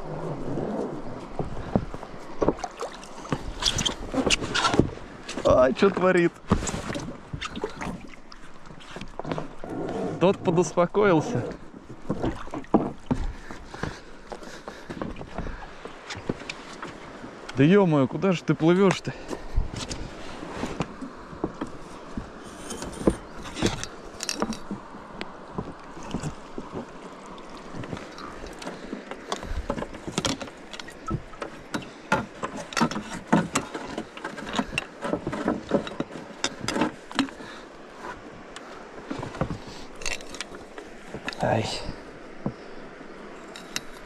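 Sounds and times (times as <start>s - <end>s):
water washing: 0.0s - 19.5s, 20.2s - 38.0s
oars knocking and clicking: 0.0s - 44.0s.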